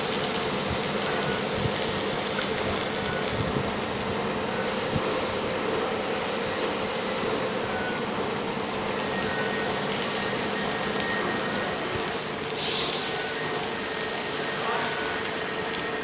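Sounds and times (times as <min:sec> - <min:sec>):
welding machine hissing: 0:00.0 - 0:16.0.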